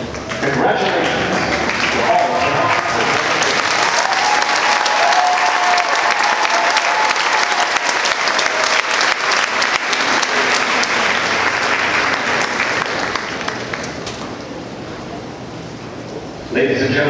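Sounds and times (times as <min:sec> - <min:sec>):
stadium crowd clapping: 0:00.0 - 0:14.5.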